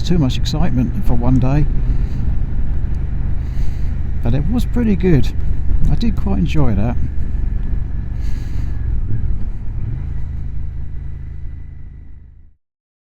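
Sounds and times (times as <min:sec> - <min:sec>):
wind rumble on microphone: 0:00.0 - 0:11.7
motorcycle engine running: 0:00.0 - 0:12.6.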